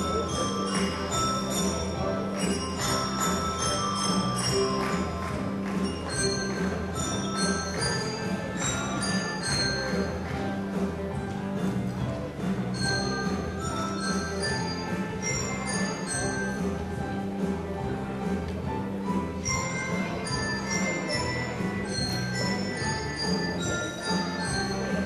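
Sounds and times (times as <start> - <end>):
children playing mallet instruments: 0.0 - 17.2, 19.3 - 25.0.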